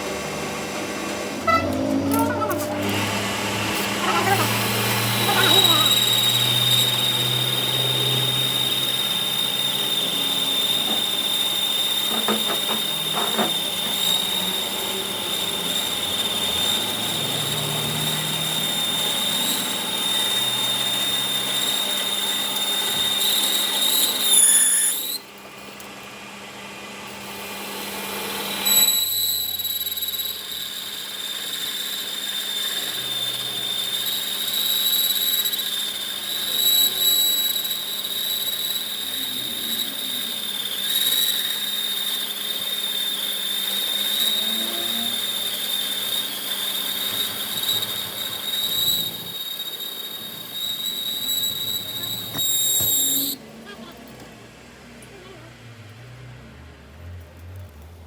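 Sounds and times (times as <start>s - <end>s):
power tool whining: 0.0s - 56.1s.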